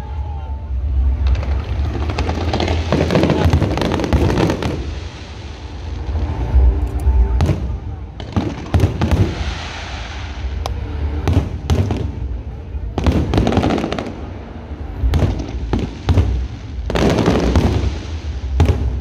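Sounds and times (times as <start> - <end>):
background music: 0.0 - 19.0
fireworks bursting: 1.1 - 19.0.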